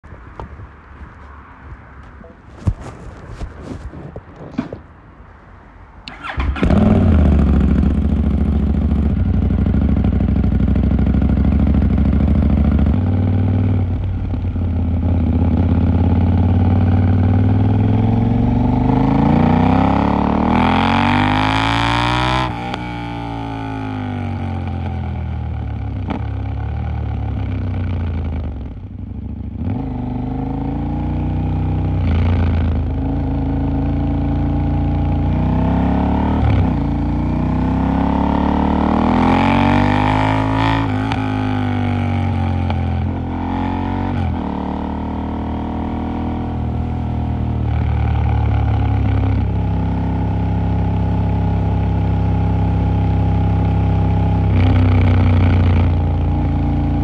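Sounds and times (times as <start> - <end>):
motorcycle engine accelerating: 6.1 - 57.0.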